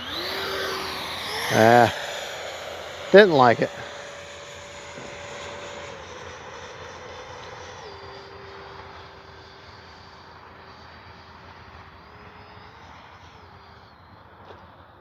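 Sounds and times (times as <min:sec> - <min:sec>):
electric jet fan whine: 0:00.0 - 0:15.0.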